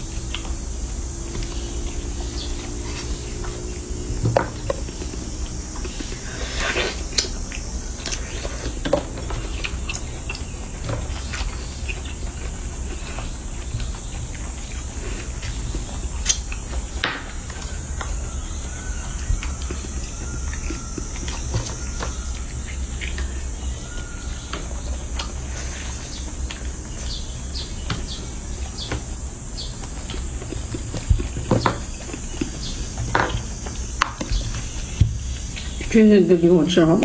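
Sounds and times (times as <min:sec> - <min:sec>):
high insect drone: 0:00.0 - 0:37.0.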